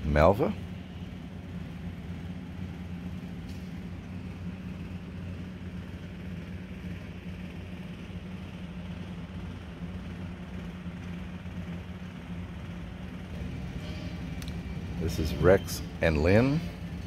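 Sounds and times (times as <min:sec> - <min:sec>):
steady low rumbling hum: 0:00.0 - 0:17.0.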